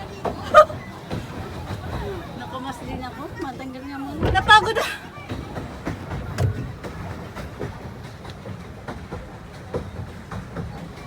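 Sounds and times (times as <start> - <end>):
pedal boat drive rumbling: 0.0 - 11.0.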